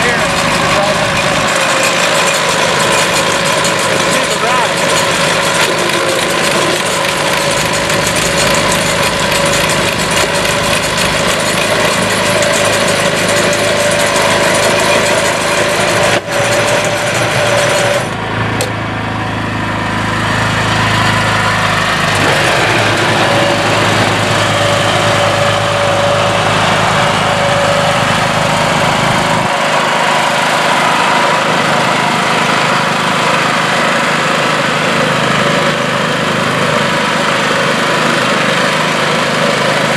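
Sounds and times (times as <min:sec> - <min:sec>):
hay baler running: 0:00.0 - 0:39.9
tractor engine running under load: 0:00.0 - 0:39.9.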